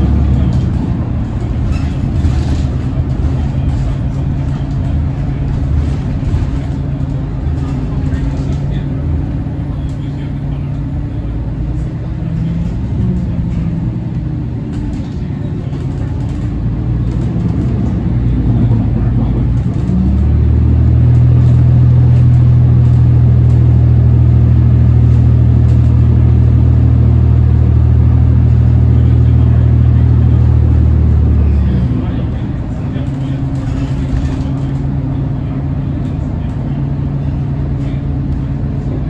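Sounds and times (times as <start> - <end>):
bus engine running: 0.0 - 39.0.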